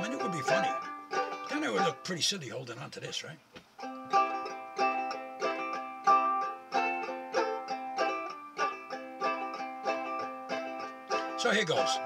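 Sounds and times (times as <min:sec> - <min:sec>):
banjo ukulele strumming: 0:00.0 - 0:02.6, 0:03.8 - 0:12.0.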